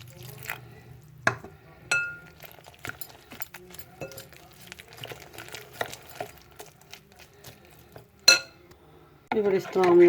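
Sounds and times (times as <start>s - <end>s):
utensil stirring batter in a bowl: 0.0s - 10.0s.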